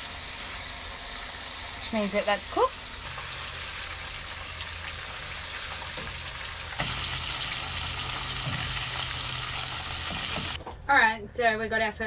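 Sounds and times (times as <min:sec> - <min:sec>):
fish frying in hot oil: 0:00.0 - 0:10.6.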